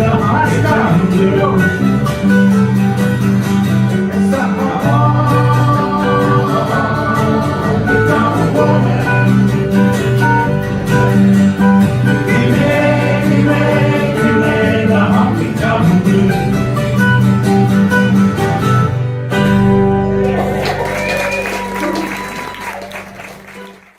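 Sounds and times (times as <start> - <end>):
acoustic country band music: 0.0 - 23.9.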